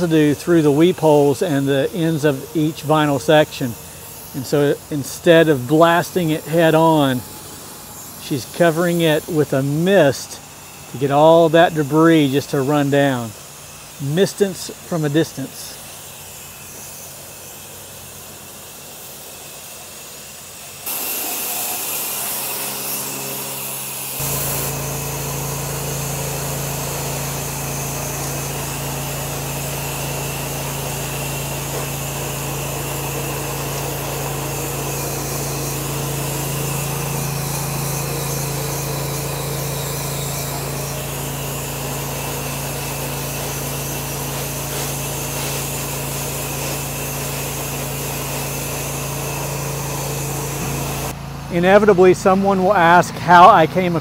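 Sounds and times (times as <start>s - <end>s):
motor hum: 0.0s - 54.0s
pressure washer water spray hiss: 0.0s - 54.0s.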